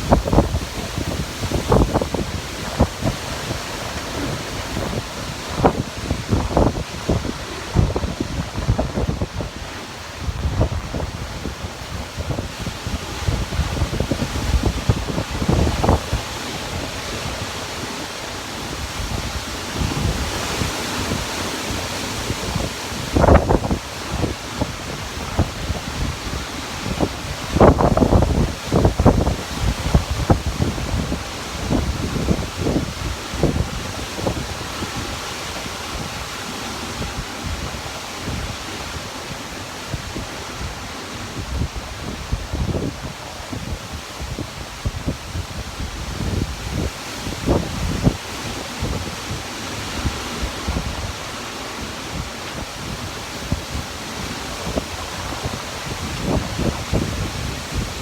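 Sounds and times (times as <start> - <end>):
strong wind gusting: 0.0 - 58.0
wind buffeting microphone: 0.0 - 58.0.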